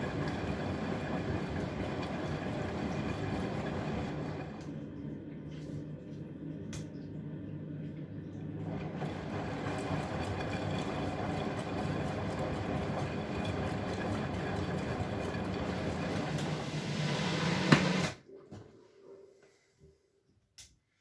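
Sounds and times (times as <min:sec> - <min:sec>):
washing machine running: 0:00.0 - 0:18.6.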